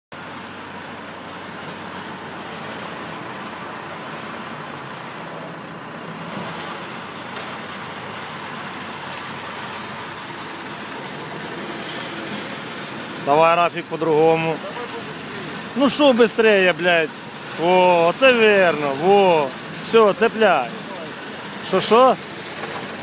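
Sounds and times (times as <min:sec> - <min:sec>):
heavy vehicle engine running: 0:00.1 - 0:23.0.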